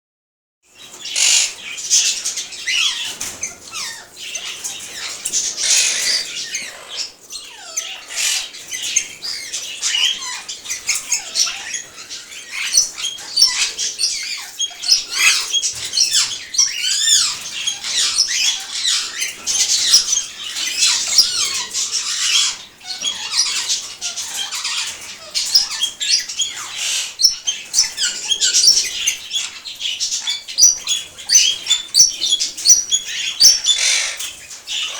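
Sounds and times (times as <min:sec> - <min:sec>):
birds chirping and chattering: 0:00.7 - 0:34.9.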